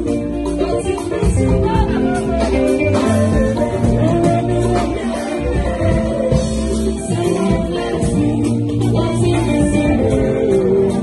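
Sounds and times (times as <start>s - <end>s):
live band with guitar and drums: 0.0s - 11.0s
woman singing into a microphone: 0.0s - 11.0s.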